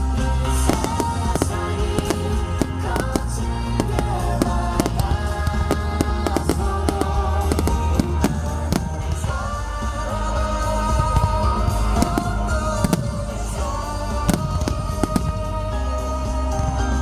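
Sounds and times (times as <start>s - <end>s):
loud show music: 0.0s - 17.0s
fireworks bangs: 0.4s - 9.8s, 10.9s - 15.6s.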